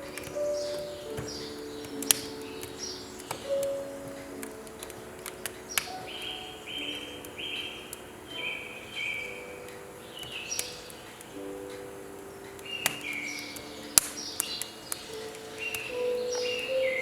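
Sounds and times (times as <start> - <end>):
birds chirping: 0.0 - 17.0
soft sustained music: 0.0 - 17.0
wood fire crackling and popping: 0.0 - 17.0.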